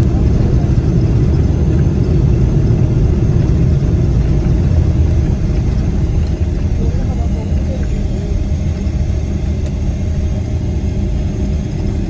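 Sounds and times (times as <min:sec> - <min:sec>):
airplane cabin rumble while taxiing: 0:00.0 - 0:12.0.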